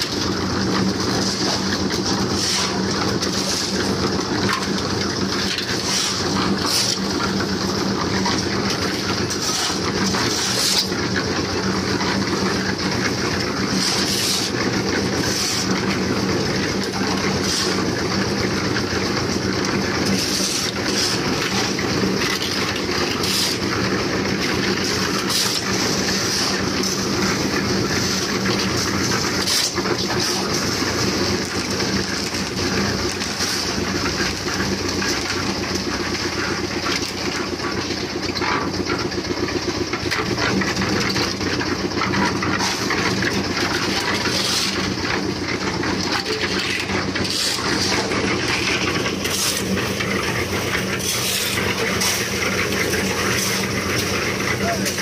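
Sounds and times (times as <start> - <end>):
concrete mixer engine humming: 0.0 - 55.0
mixer drum clattering: 0.0 - 55.0.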